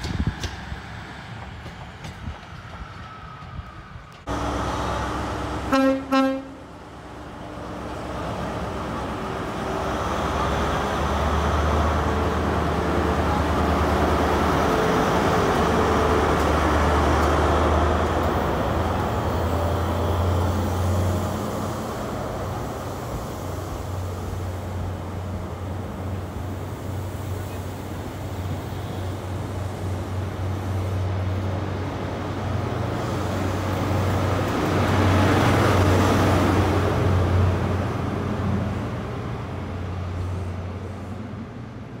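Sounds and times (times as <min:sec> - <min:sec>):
diesel train engine drone: 0:00.0 - 0:42.0
wheel and rail noise: 0:00.0 - 0:42.0.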